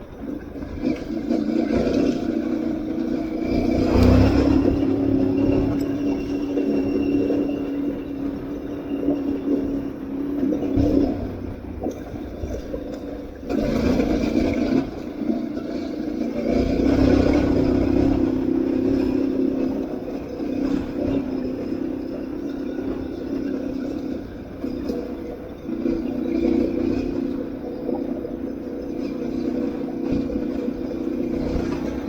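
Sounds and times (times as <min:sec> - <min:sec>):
riding noise: 0:00.0 - 0:32.0
motorcycle engine running: 0:00.7 - 0:32.0.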